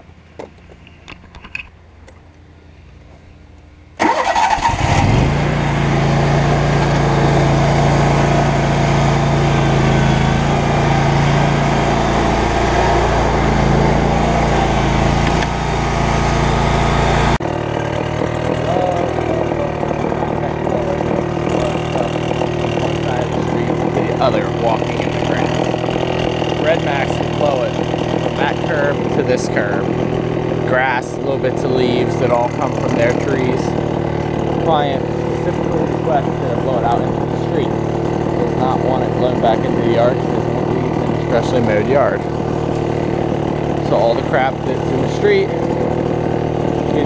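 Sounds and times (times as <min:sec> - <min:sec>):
leaf blower engine running: 0:04.0 - 0:47.0.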